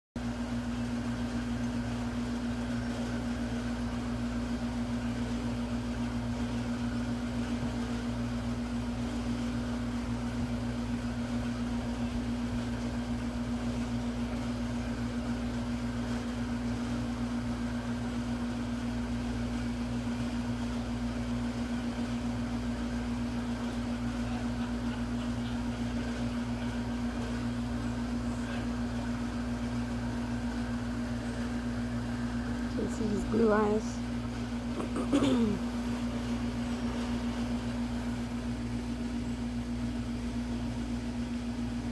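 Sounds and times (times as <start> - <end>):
low mechanical hum: 0.2 - 41.9.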